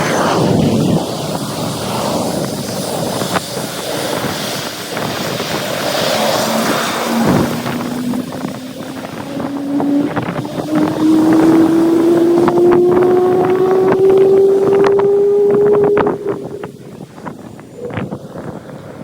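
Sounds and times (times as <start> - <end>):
jet engines spooling up: 0.0 - 19.0
wind buffeting microphone: 0.0 - 19.0.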